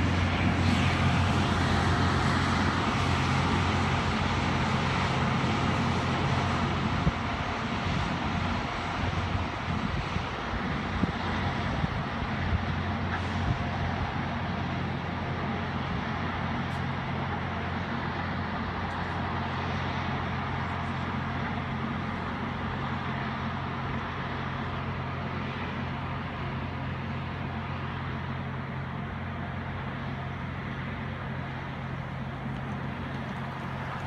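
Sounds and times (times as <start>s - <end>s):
diesel engines droning: 0.0s - 34.0s
rail grinder grinding rail: 0.0s - 34.0s.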